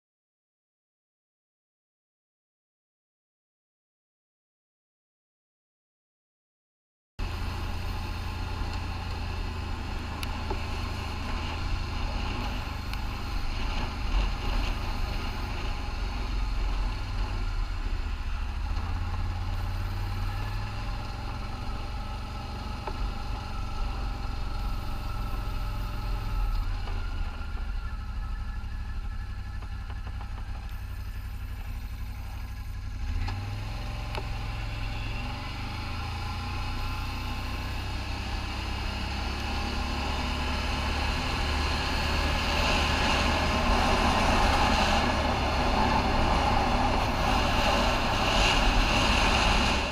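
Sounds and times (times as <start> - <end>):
atv engine running: 7.2 - 49.9.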